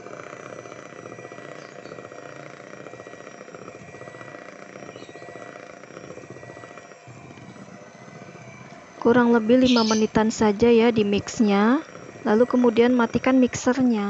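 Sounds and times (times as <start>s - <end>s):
electric hand mixer whirring: 0.0s - 14.0s.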